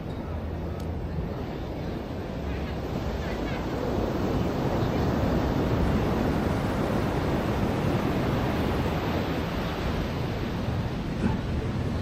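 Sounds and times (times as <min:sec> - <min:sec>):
ocean waves breaking: 0:00.4 - 0:12.0.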